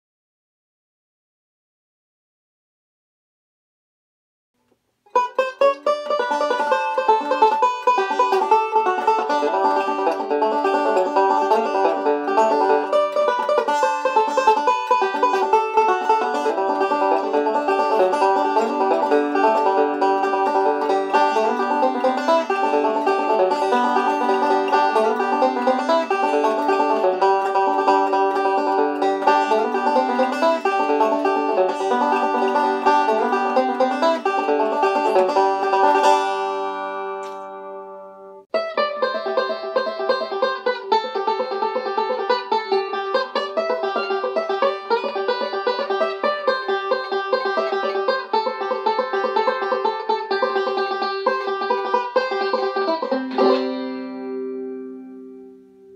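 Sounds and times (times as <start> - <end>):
banjo picking: 5.1 - 55.9.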